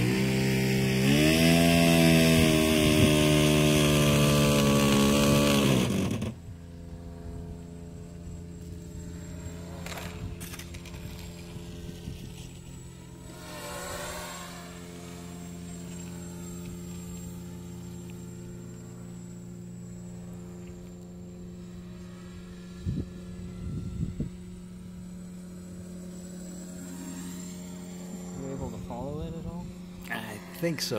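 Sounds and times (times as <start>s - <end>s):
quadcopter buzzing hum: 0.0s - 30.9s.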